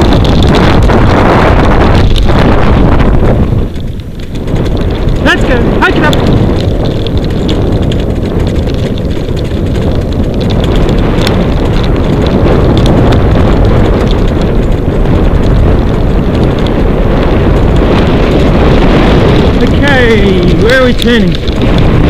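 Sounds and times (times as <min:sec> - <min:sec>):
sled rig knocking: 0:00.0 - 0:22.0
wind buffeting microphone: 0:00.0 - 0:22.0.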